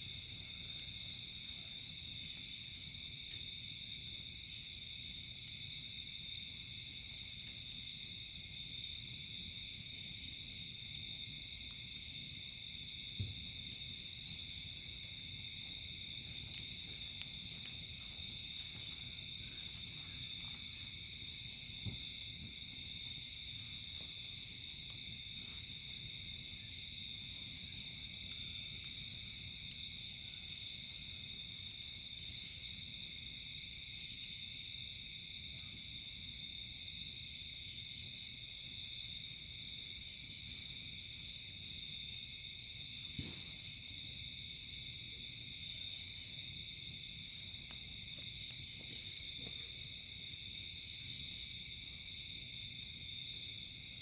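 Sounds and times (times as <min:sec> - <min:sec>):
campfire popping: 0:00.0 - 0:54.0
insects trilling: 0:00.0 - 0:54.0.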